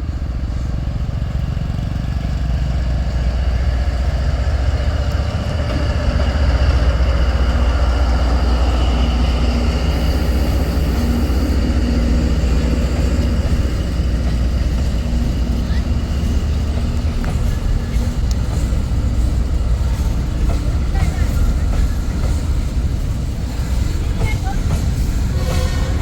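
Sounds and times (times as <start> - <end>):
locomotive engine rumble: 0.0 - 26.0.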